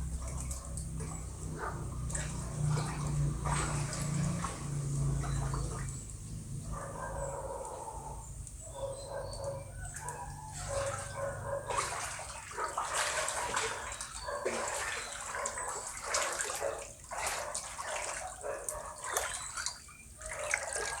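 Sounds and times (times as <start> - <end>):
floodwater splashing and sloshing: 0.0 - 7.7, 9.7 - 21.0.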